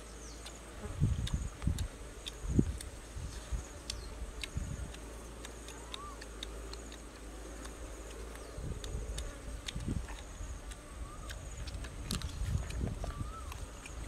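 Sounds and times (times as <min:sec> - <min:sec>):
insect trilling: 0:00.2 - 0:14.0
chewing and eating smacks: 0:01.2 - 0:14.0.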